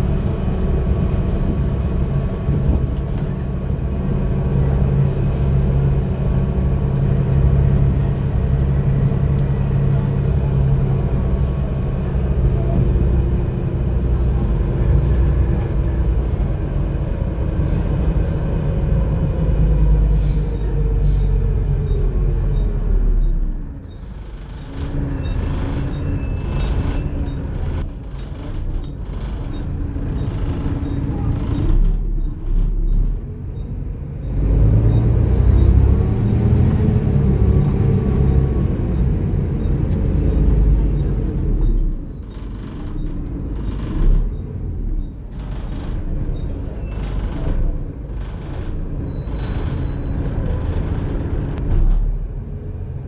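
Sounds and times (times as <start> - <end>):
bus diesel engine: 0.0 - 53.0.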